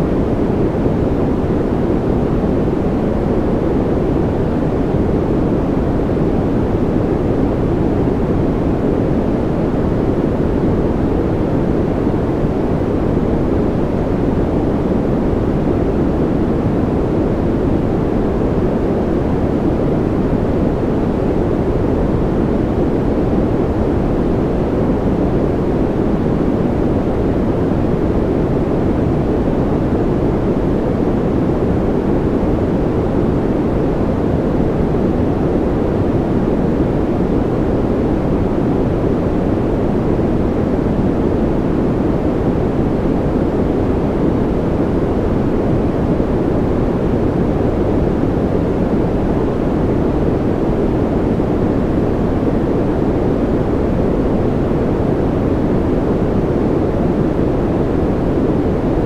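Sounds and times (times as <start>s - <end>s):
deep dull white noise: 0.0s - 59.0s.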